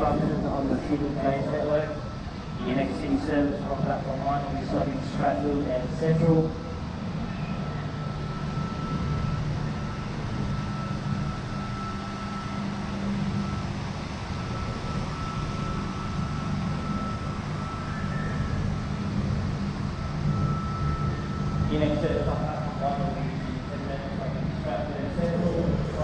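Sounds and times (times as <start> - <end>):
train hum and rumble: 0.0 - 26.0.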